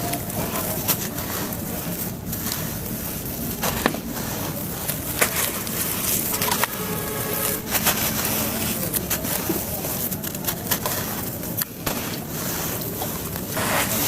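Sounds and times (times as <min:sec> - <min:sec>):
crunchy crackling of cement crumble: 0:00.0 - 0:14.0.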